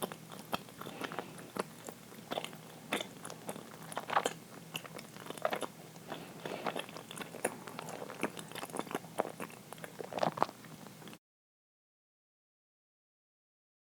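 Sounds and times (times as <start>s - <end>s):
person chewing wet mouth clicks: 0.0s - 11.2s.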